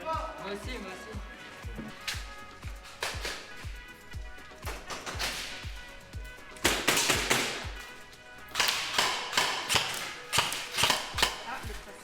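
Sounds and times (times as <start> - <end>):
music with thumping beat: 0.0 - 12.0.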